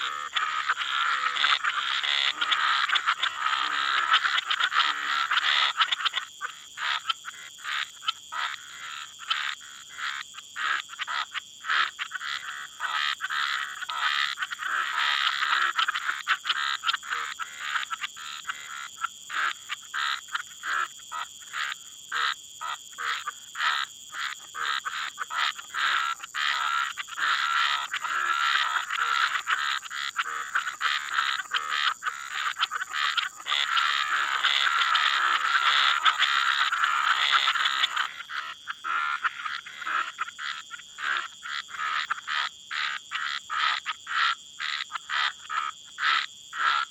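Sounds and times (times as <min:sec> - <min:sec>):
frogs and toads calling: 0:00.0 - 0:46.9.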